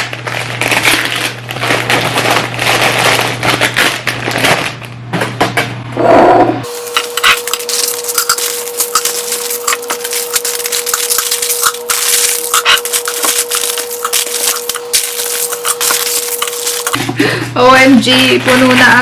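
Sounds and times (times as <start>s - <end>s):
plastic wrappers crinkling: 0.0s - 5.2s, 6.7s - 17.1s, 17.9s - 19.0s
faint hum: 0.0s - 18.5s.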